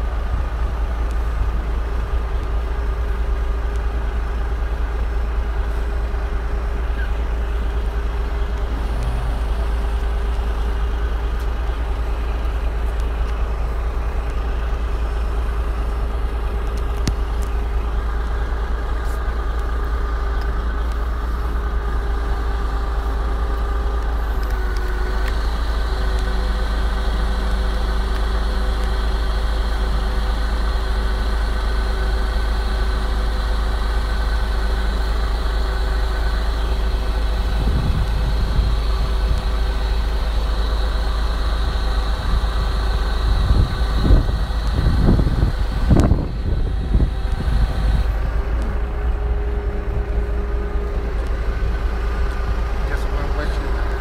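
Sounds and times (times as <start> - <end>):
heavy vehicle engine rumbling: 0.0 - 54.0
low bumps and rumbles: 0.0 - 54.0.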